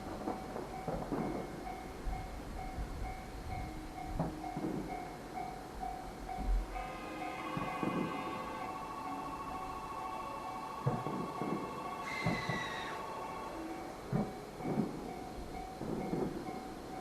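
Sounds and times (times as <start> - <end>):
level crossing alarm ringing: 0.2 - 17.0.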